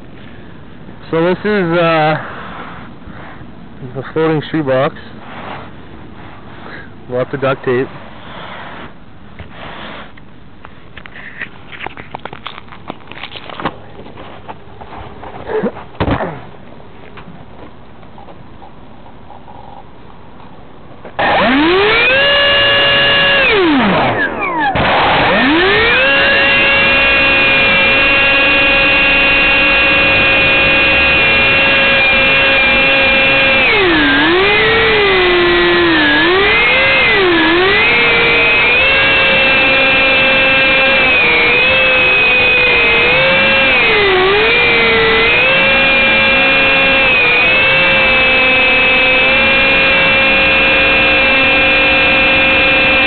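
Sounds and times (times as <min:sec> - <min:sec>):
electric ducted fans whining: 0:00.0 - 0:09.5, 0:10.1 - 0:53.0.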